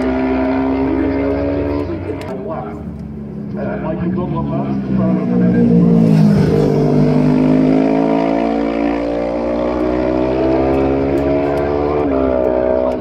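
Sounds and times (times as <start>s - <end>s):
motorcycle passing and accelerating: 0.0s - 13.0s.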